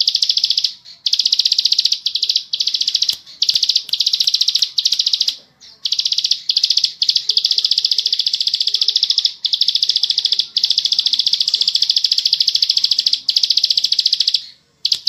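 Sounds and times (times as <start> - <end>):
bird singing fast trill: 0.0 - 15.0.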